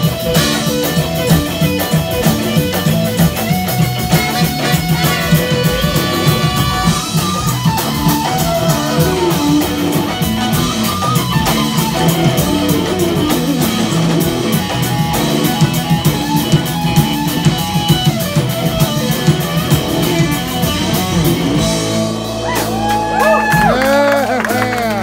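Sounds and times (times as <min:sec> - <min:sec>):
drum kit beat: 0:00.0 - 0:25.0
electric guitar: 0:00.0 - 0:25.0.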